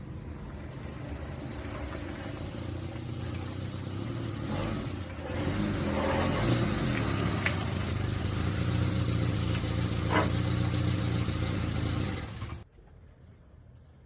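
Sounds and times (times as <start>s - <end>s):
car engine accelerating: 0.0s - 12.6s.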